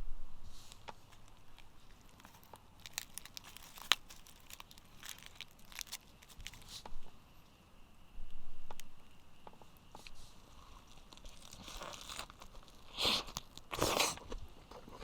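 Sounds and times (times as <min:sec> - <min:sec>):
rustling and crinkling: 0:00.4 - 0:07.2, 0:09.5 - 0:15.0.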